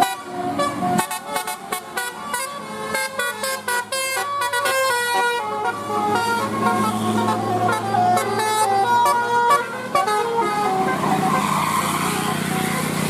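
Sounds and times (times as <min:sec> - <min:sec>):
musical bus horn tune: 0:00.0 - 0:13.0.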